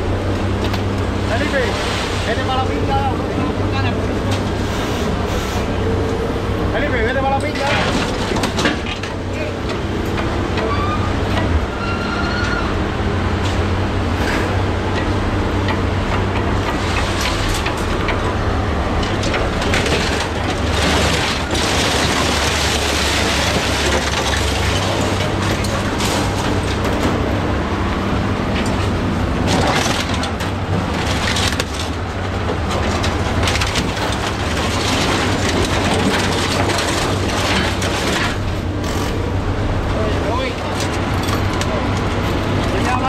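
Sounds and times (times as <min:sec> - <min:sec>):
scrap metal crunching and clanking: 0:06.8 - 0:12.6, 0:13.4 - 0:43.0.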